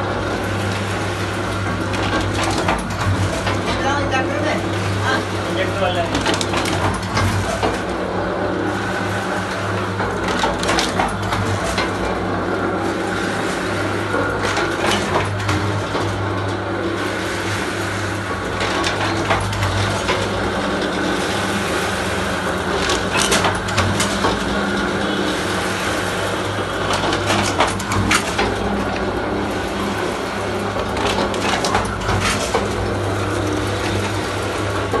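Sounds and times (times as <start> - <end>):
machine motor hum: 0.0 - 35.0.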